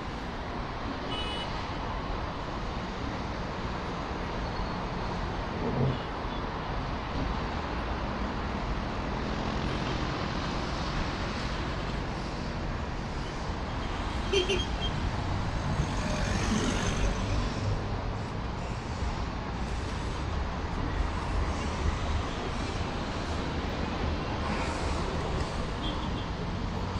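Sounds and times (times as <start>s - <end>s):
road traffic passing: 0.0s - 26.9s.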